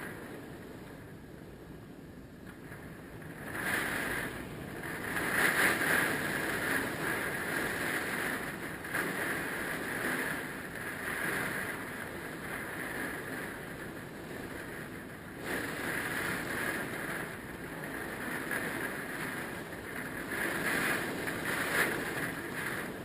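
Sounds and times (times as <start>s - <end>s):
strong wind gusting: 0.0s - 23.0s.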